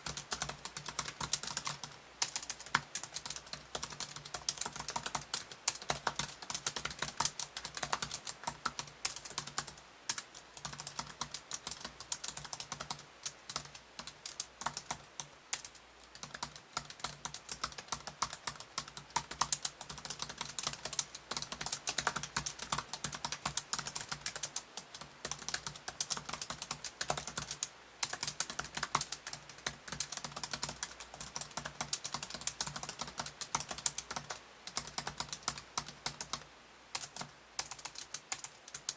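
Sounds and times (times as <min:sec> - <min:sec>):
fast laptop keyboard typing: 0:00.0 - 0:38.9.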